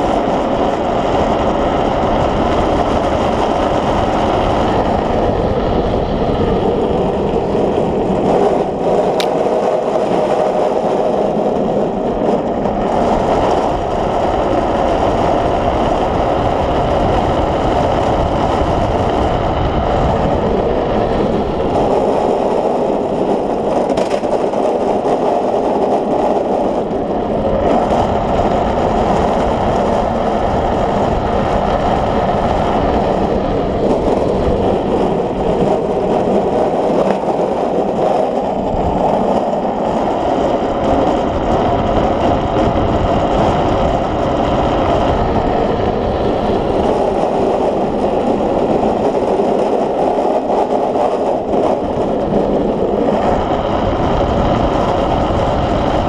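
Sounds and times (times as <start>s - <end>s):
wheels rolling on asphalt: 0.0s - 56.0s
wind rush: 0.0s - 56.0s.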